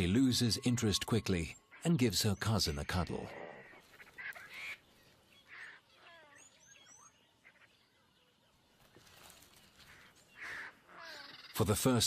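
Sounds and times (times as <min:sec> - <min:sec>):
bird chirps and calls: 0:00.0 - 0:12.0.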